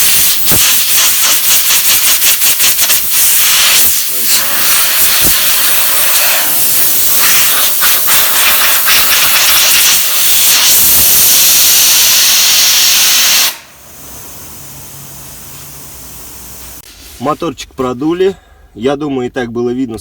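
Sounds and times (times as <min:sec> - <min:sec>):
compressed air blow gun hissing: 0:00.0 - 0:17.2.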